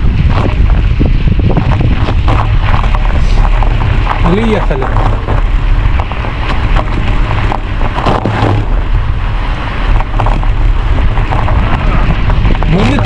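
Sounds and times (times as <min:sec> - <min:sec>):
short crackles: 0:00.0 - 0:13.0
wind buffeting microphone: 0:00.0 - 0:13.0.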